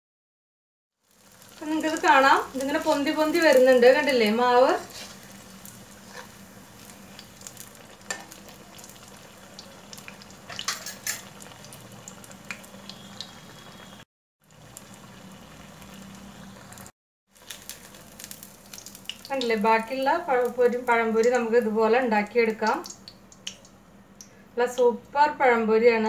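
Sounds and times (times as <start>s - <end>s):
oil sizzling: 1.0s - 24.4s.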